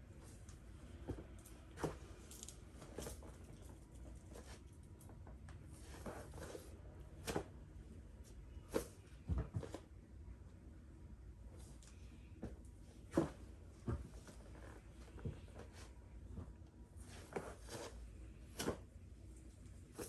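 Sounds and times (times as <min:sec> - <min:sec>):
soft clothing rustles: 0:00.0 - 0:10.0, 0:11.5 - 0:20.0.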